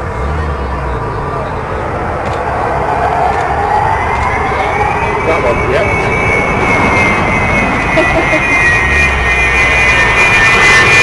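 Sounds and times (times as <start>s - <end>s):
jet rumble with high whine: 0.0s - 11.0s.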